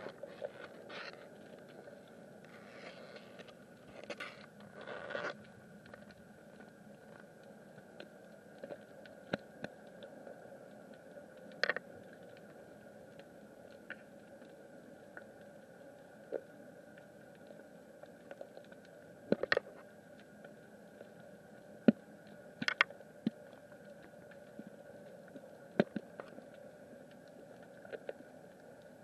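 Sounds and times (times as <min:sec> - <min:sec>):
faint underwater hum: 0:00.0 - 0:29.0
sharp clicks and crackles: 0:00.0 - 0:29.0.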